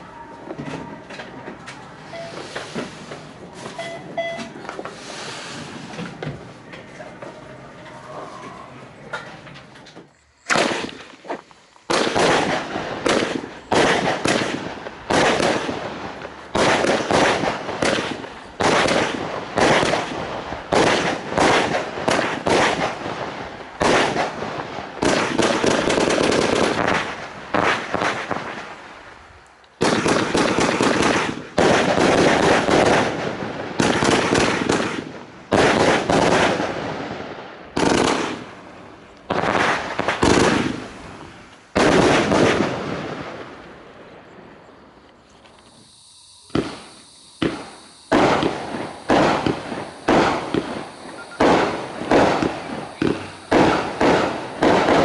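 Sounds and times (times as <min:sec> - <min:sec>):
fireworks launching and bursting: 0:00.0 - 0:06.6, 0:09.6 - 0:55.0.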